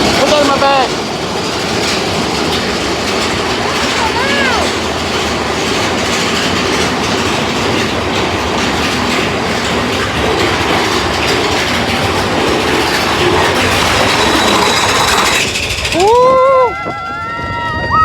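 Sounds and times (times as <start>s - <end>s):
roller coaster wheels rattling on rails: 0.0s - 18.0s.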